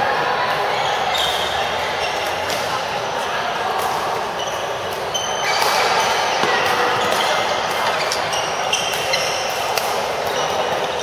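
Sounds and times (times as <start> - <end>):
court shoes squeaking: 0.5 - 11.0.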